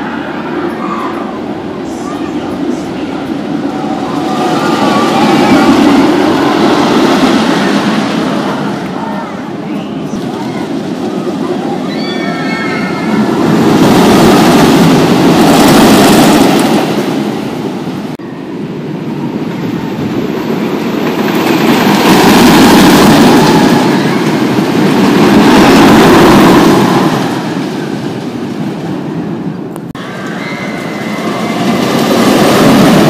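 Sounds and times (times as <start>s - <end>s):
roller coaster rumbling on track: 0.0s - 33.0s.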